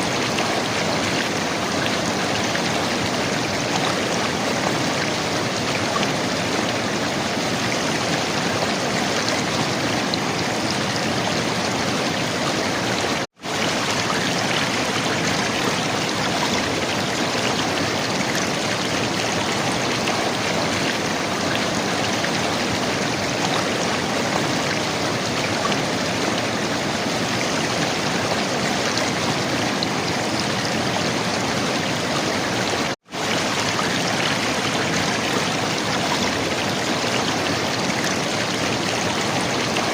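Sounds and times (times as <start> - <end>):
river water gurgling and rushing: 0.0 - 39.9.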